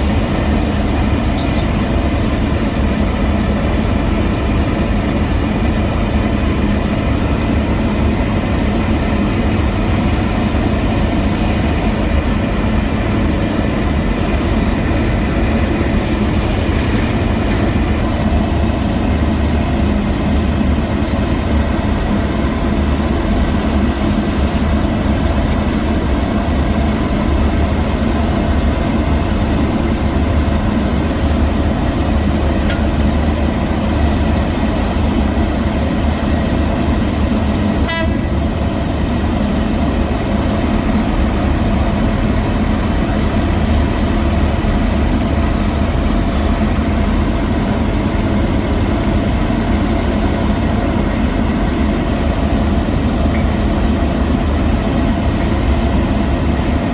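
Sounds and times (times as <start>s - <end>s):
heavy machinery engines humming: 0.0s - 56.9s.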